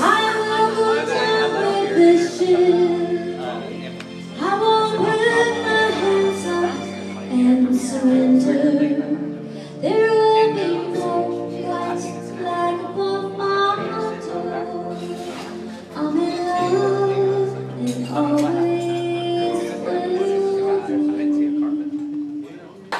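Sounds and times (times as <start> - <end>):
woman singing into a microphone: 0.0 - 22.6
instrumental accompaniment: 0.0 - 22.9.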